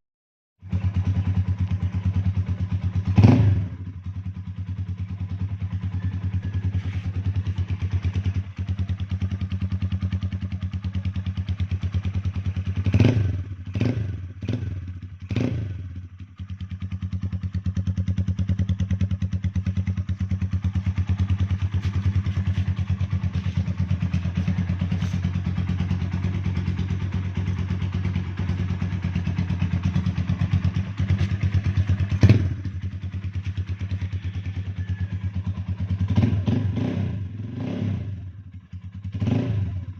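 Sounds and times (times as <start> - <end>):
motorcycle engine idling: 0.6 - 39.9.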